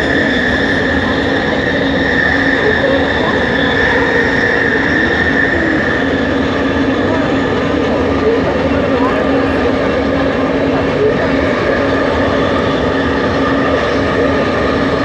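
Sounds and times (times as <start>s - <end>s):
train motor high whine: 0.0s - 15.0s
train running gear rumble: 0.0s - 15.0s.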